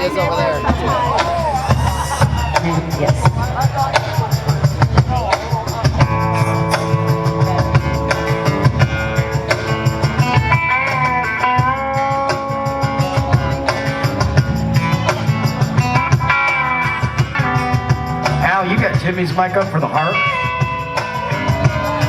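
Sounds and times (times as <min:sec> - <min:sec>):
electric guitar bending notes: 0:00.0 - 0:18.4
bass guitar: 0:00.0 - 0:22.0
drum beat: 0:00.0 - 0:22.0.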